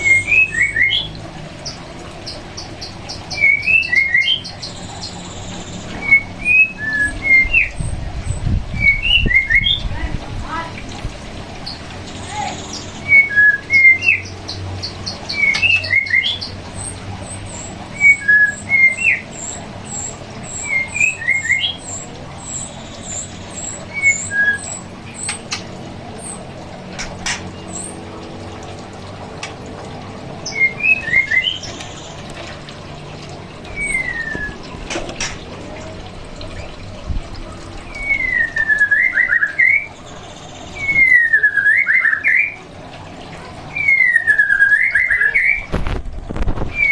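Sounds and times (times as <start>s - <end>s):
bird chirping phrases: 0.0s - 11.0s, 11.6s - 29.2s, 30.4s - 45.7s.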